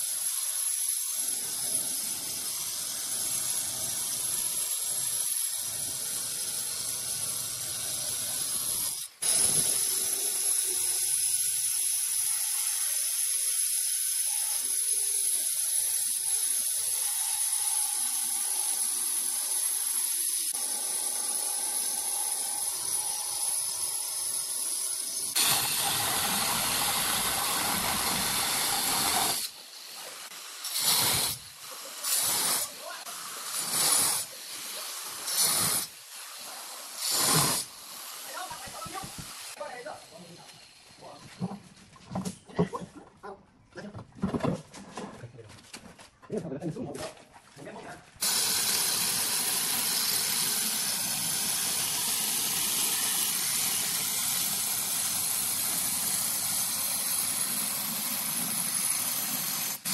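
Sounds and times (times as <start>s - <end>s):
stone cutter whining: 0.0s - 41.5s, 48.2s - 59.9s.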